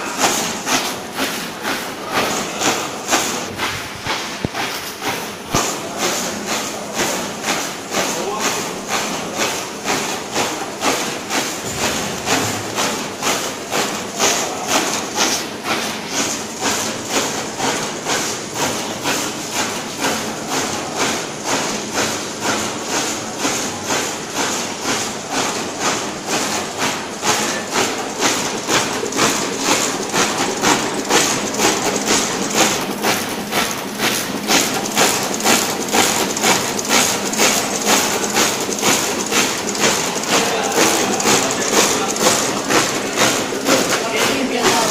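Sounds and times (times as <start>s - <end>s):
label printing machine clacking: 0.0s - 44.9s.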